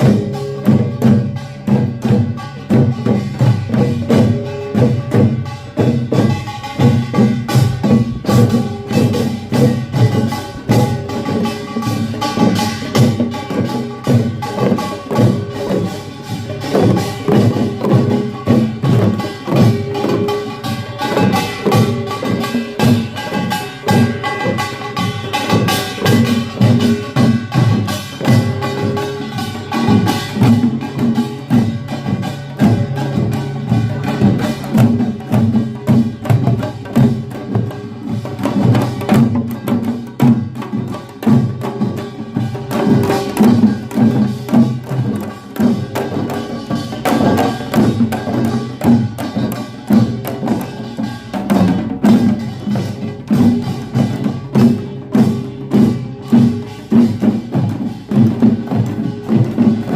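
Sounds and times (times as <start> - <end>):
drum and gong band playing: 0.0 - 59.9.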